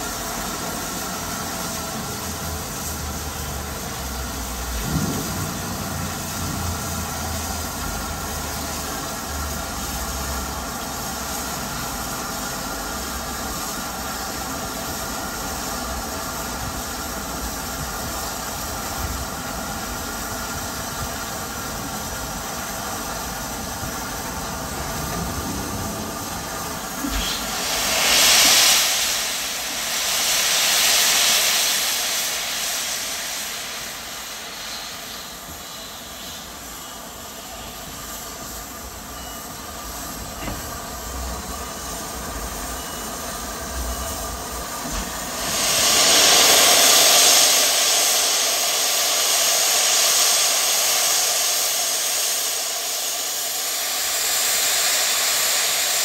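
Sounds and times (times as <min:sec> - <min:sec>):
burst of hissing steam: 0:00.0 - 0:56.0
steam locomotive hissing: 0:00.0 - 0:56.0.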